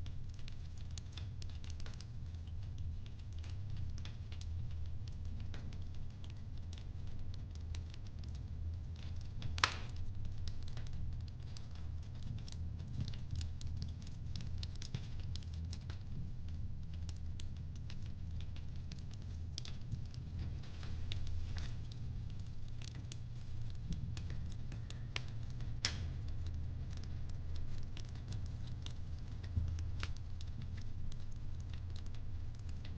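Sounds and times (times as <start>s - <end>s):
fireplace crackling: 0.0s - 32.9s.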